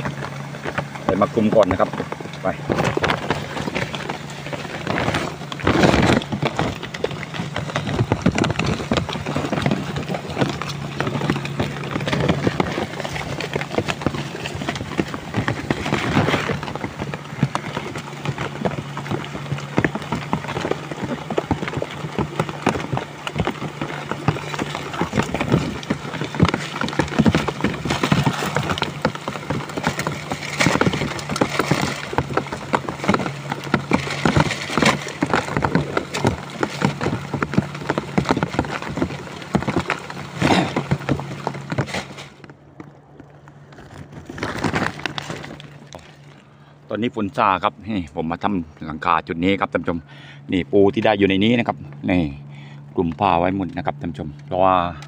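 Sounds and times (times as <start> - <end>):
rain on plastic sheeting: 0.0 - 42.4, 43.7 - 46.4.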